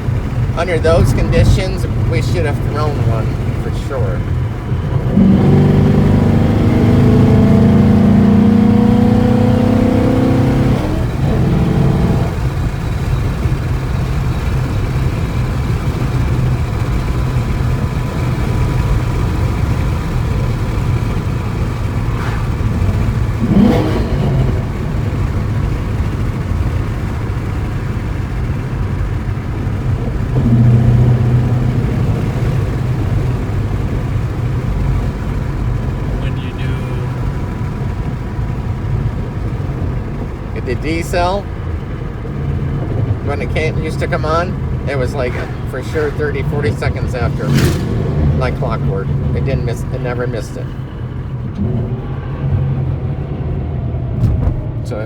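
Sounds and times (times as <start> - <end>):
car engine revving under load: 0.0 - 55.0.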